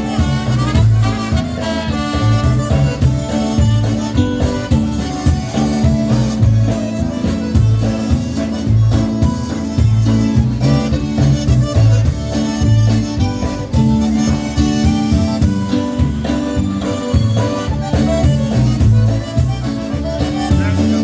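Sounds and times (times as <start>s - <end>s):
accordion: 0.0s - 21.0s
bass: 0.0s - 21.0s
drums with steady beat: 0.0s - 21.0s.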